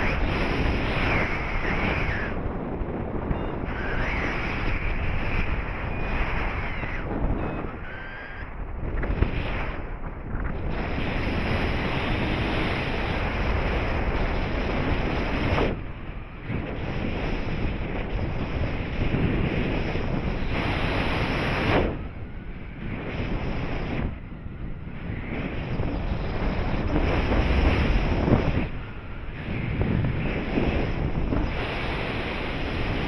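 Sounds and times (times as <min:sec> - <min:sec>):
gusty wind noise on microphone: 0:00.0 - 0:33.0.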